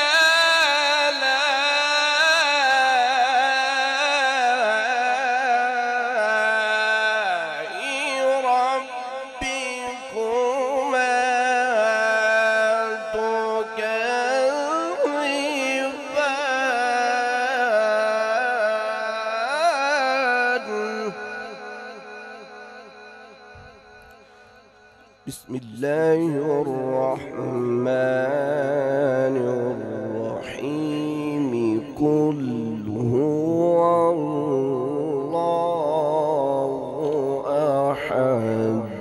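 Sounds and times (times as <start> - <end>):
man reciting melodically: 0.0 - 39.0.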